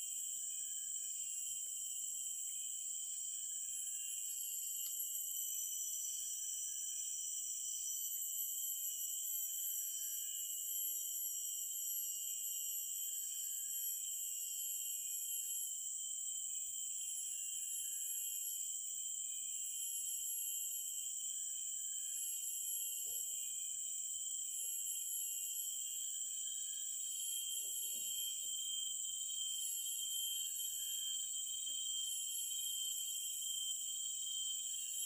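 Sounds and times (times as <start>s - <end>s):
insects buzzing: 0.0s - 35.0s.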